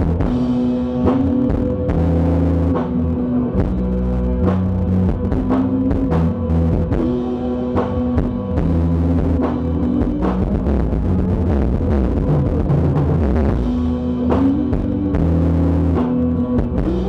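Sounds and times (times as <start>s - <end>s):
held low notes: 0.0s - 17.0s.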